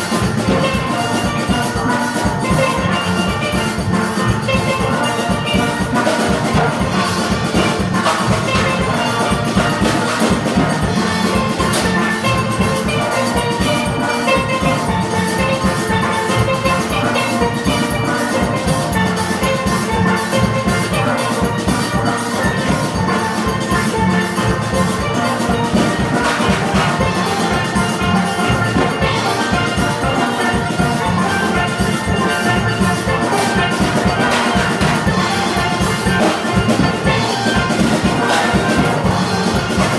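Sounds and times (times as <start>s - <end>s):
percussion beat: 0.0s - 39.9s
steel pans playing: 0.0s - 39.9s.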